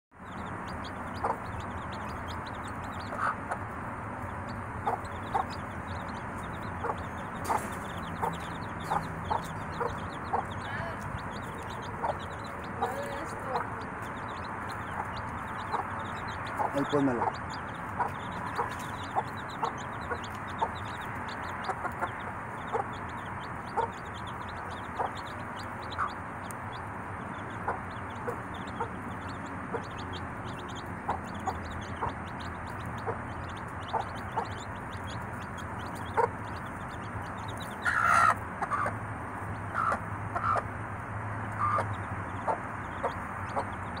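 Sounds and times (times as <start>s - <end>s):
chicks peeping: 0.1s - 44.0s
hen clucking: 0.2s - 44.0s.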